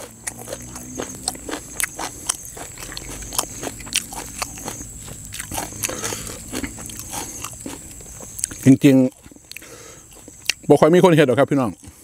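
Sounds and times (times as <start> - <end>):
wet chewing smacks: 0.0 - 10.7.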